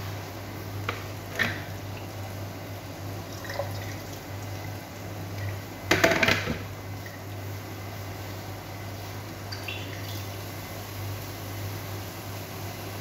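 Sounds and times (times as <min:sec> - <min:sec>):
liquid bubbling in a cooking pot: 0:00.0 - 0:13.0
low steady hum: 0:00.0 - 0:13.0.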